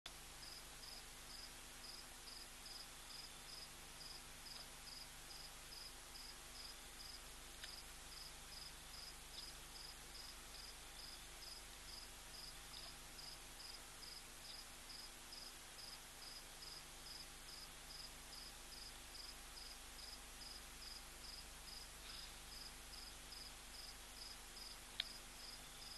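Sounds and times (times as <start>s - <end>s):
night ambience hiss: 0.1s - 25.9s
cricket chirping: 0.4s - 25.9s.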